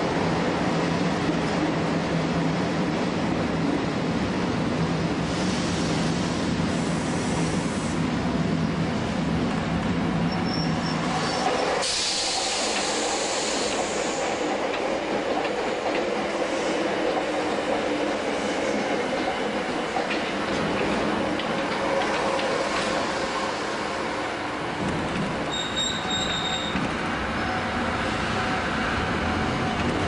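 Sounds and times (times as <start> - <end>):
passing train rush: 0.0 - 30.0.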